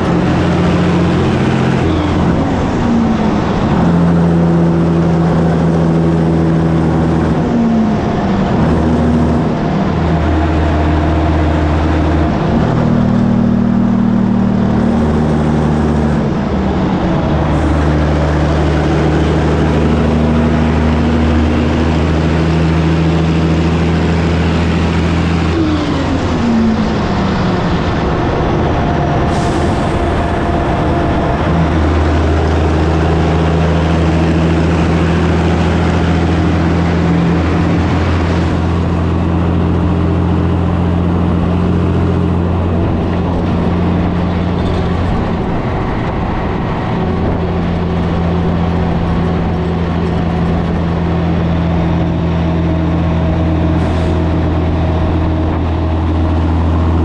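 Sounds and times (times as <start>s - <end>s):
truck diesel engine shifting gears: 0.0s - 57.0s.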